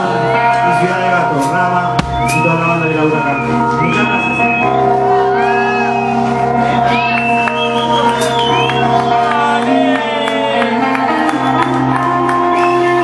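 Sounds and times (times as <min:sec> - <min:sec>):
live band with electric guitar: 0:00.0 - 0:13.0.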